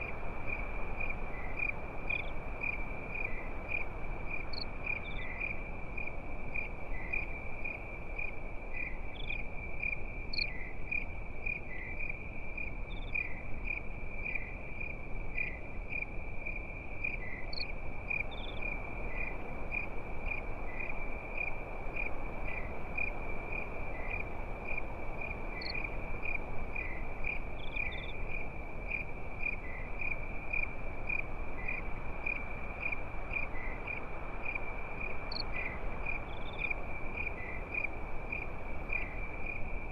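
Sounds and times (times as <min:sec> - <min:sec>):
crickets chirping: 0:00.0 - 0:39.9
soft background hiss: 0:00.0 - 0:39.9.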